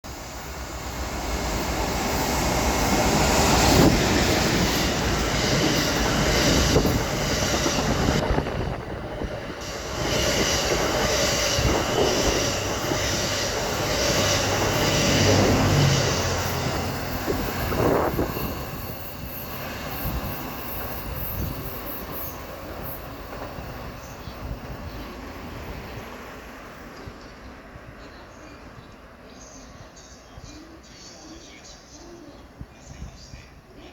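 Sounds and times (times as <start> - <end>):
train passing: 0.1 - 32.6.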